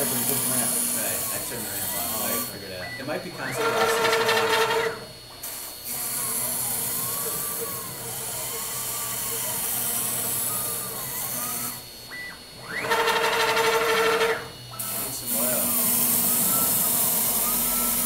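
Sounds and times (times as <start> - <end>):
router spindle hissing: 0.0 - 18.0
stepper motors whining: 0.0 - 18.0.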